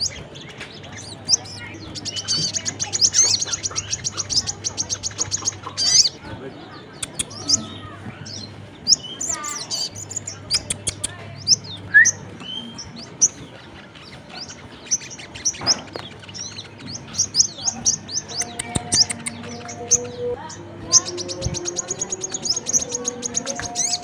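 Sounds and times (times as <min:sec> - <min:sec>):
bird trill: 0:00.0 - 0:24.0
high-pitched bird chirps: 0:00.0 - 0:24.0.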